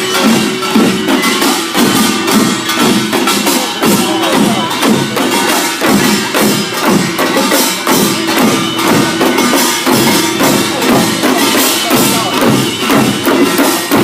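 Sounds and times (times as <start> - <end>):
drum strokes: 0.0 - 14.0
metal gongs clanging: 0.0 - 14.0.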